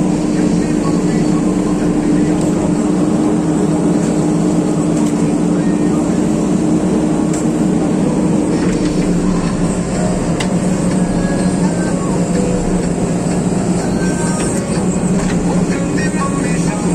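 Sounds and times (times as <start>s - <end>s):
excavator engine humming: 0.0s - 16.9s.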